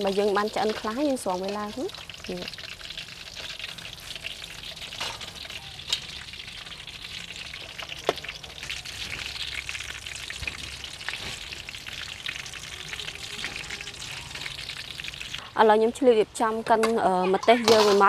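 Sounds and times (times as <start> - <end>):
chicken deep-frying in oil: 0.0 - 18.0.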